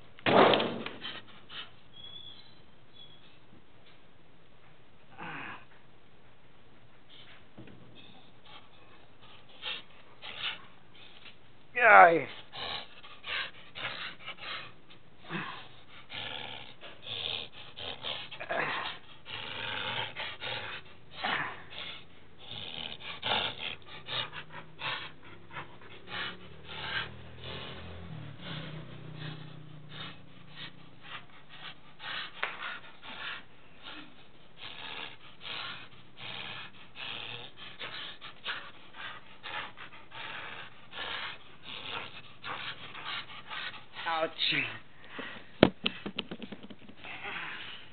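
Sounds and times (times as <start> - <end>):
dog breathing hard and snorting: 7.1 - 11.4, 12.2 - 47.9.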